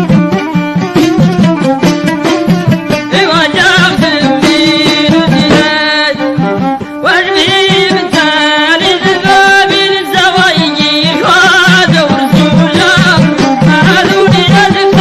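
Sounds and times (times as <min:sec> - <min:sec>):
instrumental melody with beat: 0:00.0 - 0:15.0
folk singing: 0:02.3 - 0:15.0.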